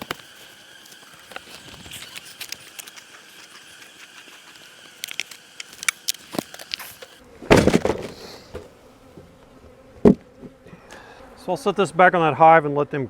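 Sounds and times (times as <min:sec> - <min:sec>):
honey bees droning: 0:00.0 - 0:13.0.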